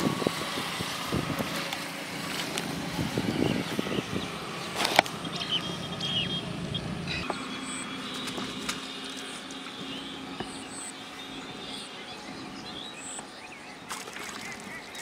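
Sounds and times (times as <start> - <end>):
road traffic: 0.0 - 15.0
steady hum: 0.0 - 15.0.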